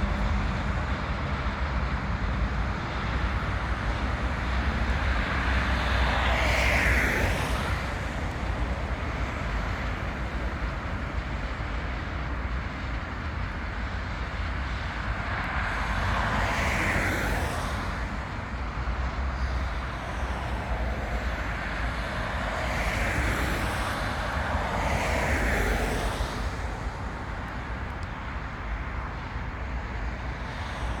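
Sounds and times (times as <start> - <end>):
diesel locomotive rumbling: 0.0 - 31.0.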